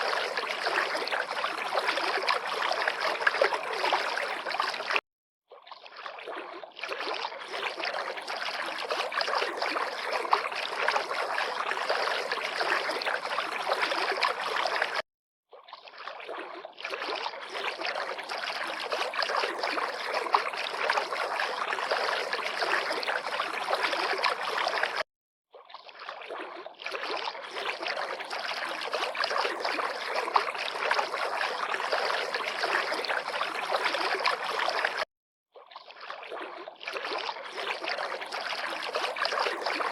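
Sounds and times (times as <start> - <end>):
river water lapping and splashing: 0.0 - 39.9.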